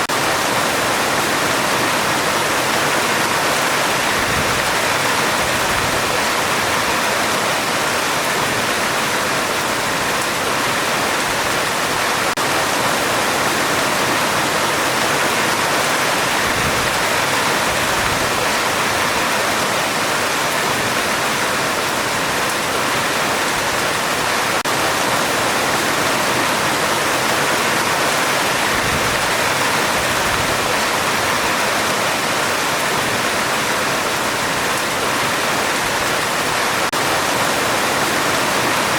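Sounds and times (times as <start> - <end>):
heavy rain on metal roof: 0.0 - 38.9.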